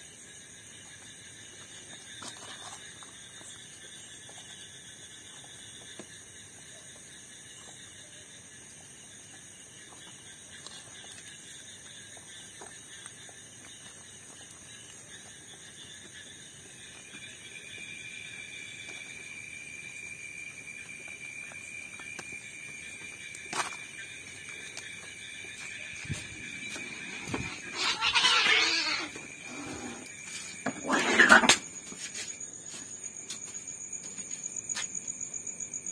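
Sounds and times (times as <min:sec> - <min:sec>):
crickets trilling: 0:00.0 - 0:35.9.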